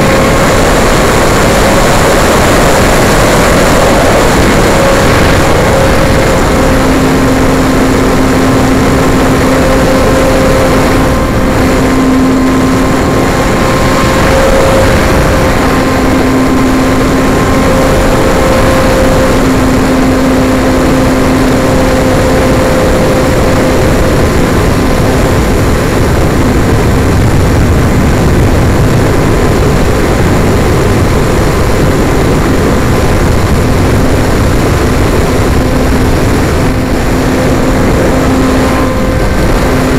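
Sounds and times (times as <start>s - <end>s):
model airplane propeller hum: 0.0s - 39.9s
wind noise on microphone: 0.0s - 39.9s.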